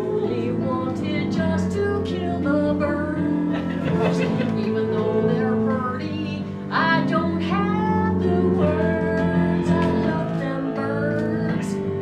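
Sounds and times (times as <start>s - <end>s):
instrumental accompaniment: 0.0s - 12.0s
woman singing: 0.0s - 12.0s.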